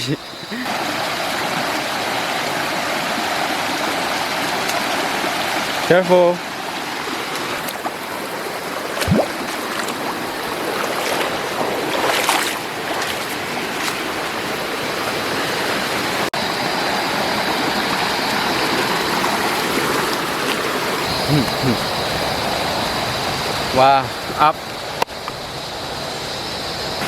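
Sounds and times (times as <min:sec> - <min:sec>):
stream rushing over waterfalls: 0:00.0 - 0:26.0.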